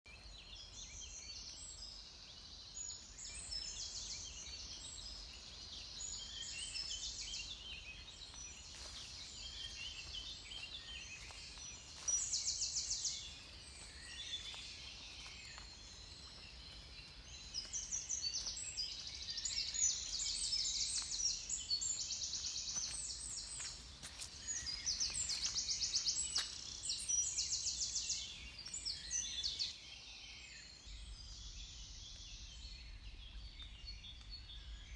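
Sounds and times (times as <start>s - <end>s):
songbirds singing: 0.1s - 30.9s.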